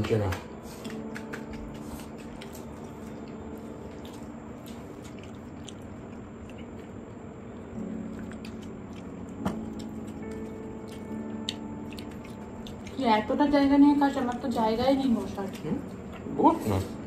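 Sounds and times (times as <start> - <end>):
wet chewing sounds: 0.1 - 17.0.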